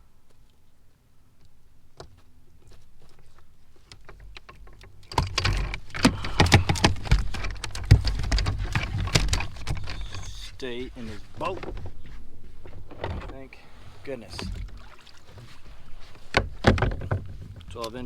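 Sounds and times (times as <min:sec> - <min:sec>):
knocks rattles and thumps on kayak: 0:02.0 - 0:18.0.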